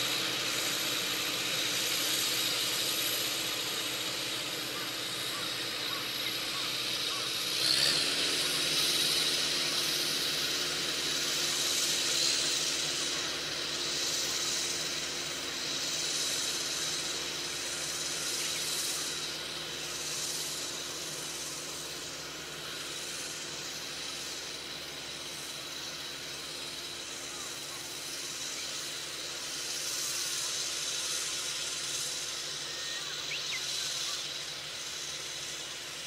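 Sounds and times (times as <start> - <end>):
distant tractor engine hum: 0.0 - 36.0
steady hiss: 0.0 - 36.0.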